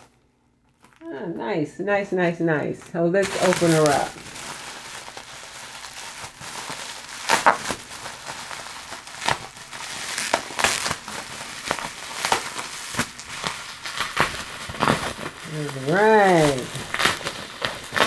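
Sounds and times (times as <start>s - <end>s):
sharp bubble wrap crackles: 0.0s - 1.0s, 3.2s - 18.0s
bubble wrap crinkling: 0.0s - 1.2s, 2.2s - 18.0s.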